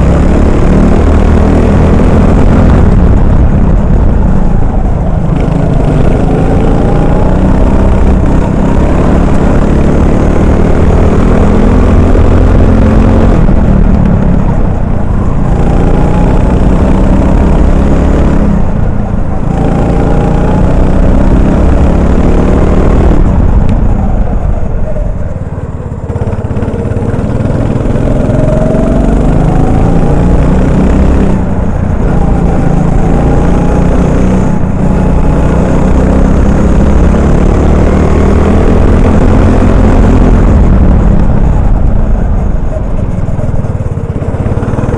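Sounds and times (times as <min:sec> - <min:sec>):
kart engine at racing speed: 0:00.0 - 0:44.9.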